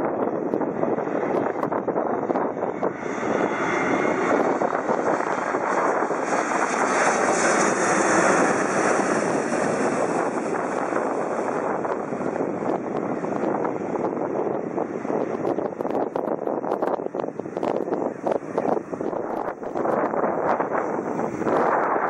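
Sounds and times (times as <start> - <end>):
jet airliner passing low overhead: 0.0 - 22.0.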